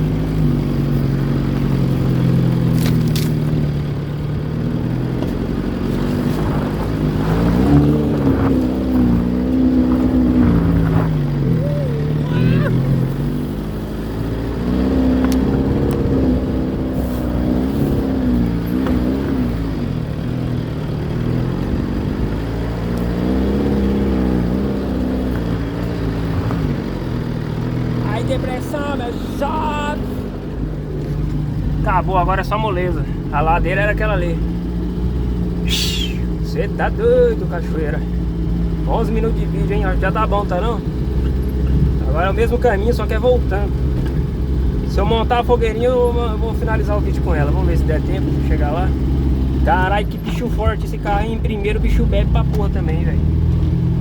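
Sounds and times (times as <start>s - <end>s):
engine pulling under load: 0.0s - 54.0s.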